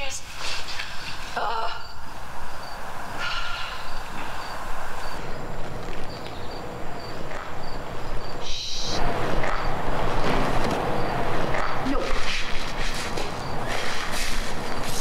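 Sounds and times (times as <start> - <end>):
steady noisy rumble: 0.0 - 15.0.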